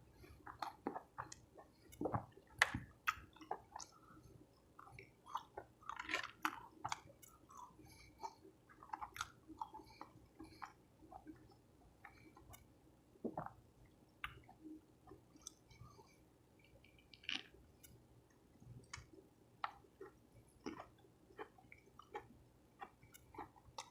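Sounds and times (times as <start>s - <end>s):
wet chewing and mouth clicks: 0.1s - 18.0s, 18.6s - 23.9s.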